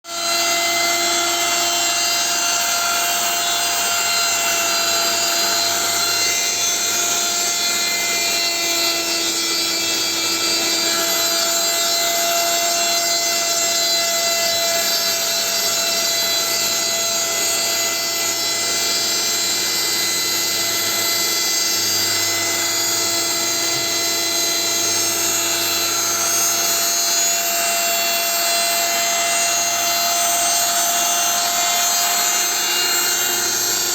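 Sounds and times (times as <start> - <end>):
router motor whining: 0.1 - 33.9.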